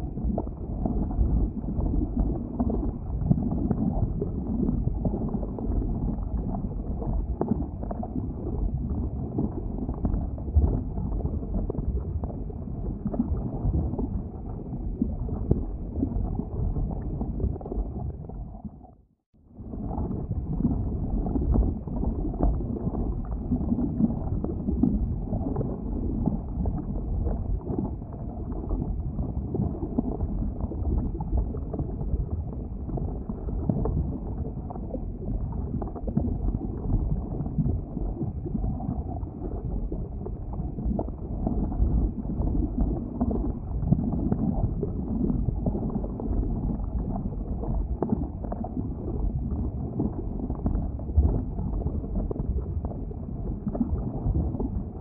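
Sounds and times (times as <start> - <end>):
deep rumble of lava: 0.0 - 55.0.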